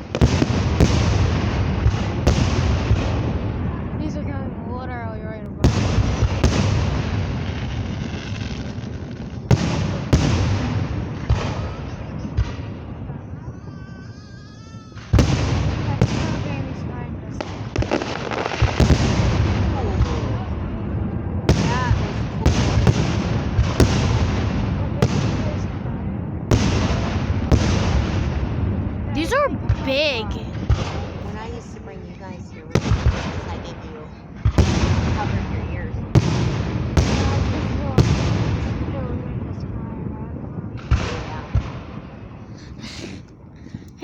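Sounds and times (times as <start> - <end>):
sharp firework booms: 0.0 - 4.4, 5.6 - 13.8, 14.9 - 31.7, 32.6 - 44.0
fireworks rumble and crackle: 0.0 - 44.0.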